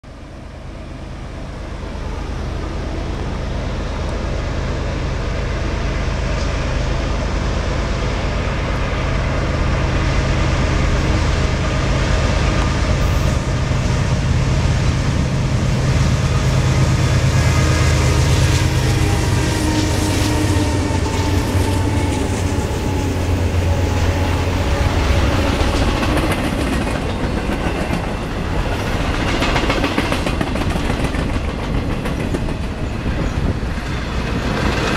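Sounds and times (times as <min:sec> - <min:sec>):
locomotive engine drone: 0:00.0 - 0:34.9.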